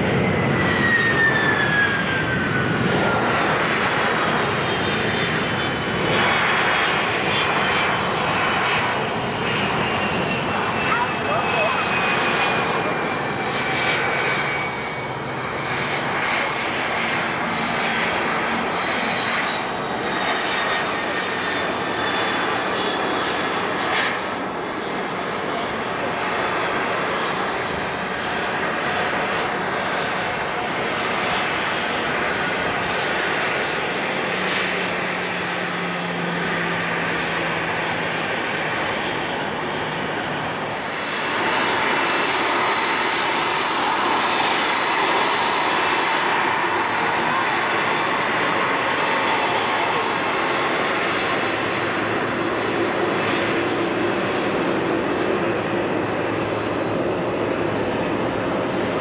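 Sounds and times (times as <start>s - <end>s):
jet engines rushing and whining: 0.0s - 59.0s.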